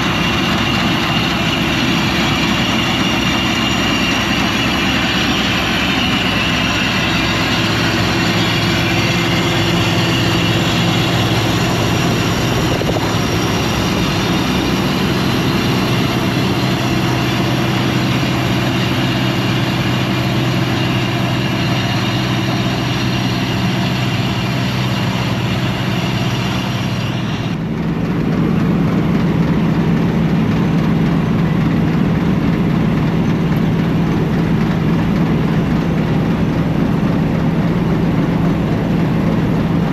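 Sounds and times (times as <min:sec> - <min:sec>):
large diesel engine running: 0:00.0 - 0:39.9.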